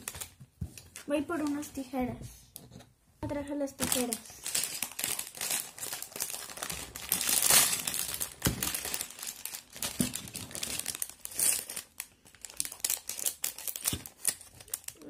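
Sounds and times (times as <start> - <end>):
plastic bags crinkling: 0.0 - 1.6, 3.7 - 15.0.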